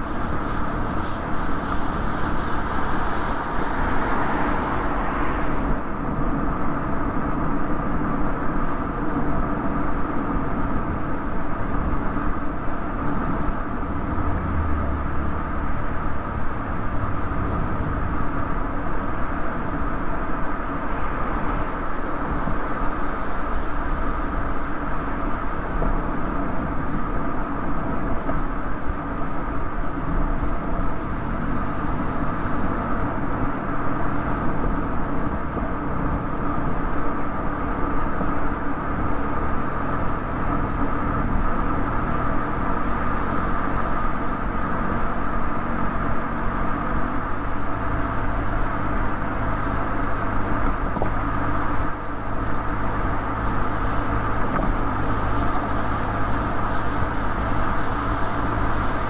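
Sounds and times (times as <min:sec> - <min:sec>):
tyre and road noise: 0:00.0 - 0:59.0
wind: 0:00.0 - 0:59.0.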